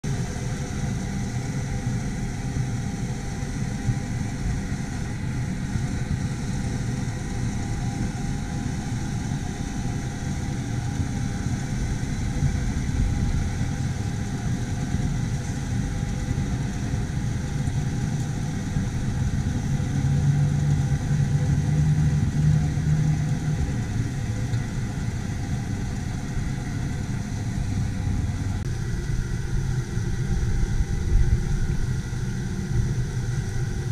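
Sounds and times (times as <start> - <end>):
cutting cylinder whine: 0.0 - 33.9.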